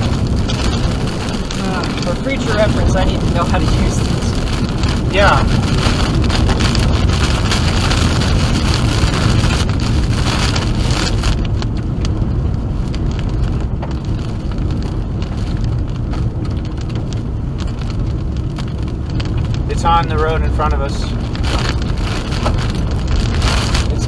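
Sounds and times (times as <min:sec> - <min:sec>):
rain pelting a car: 0:00.0 - 0:24.0
road rumble: 0:00.0 - 0:24.0.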